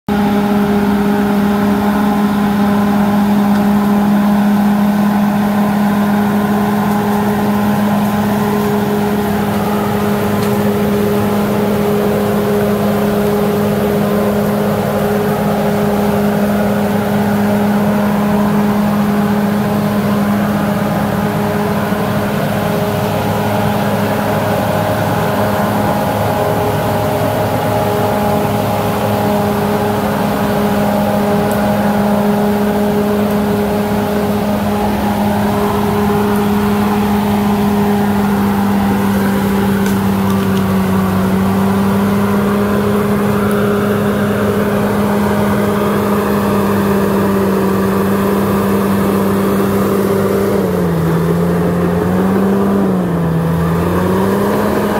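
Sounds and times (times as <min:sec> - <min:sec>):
bulldozer diesel engine droning: 0:00.0 - 0:54.9.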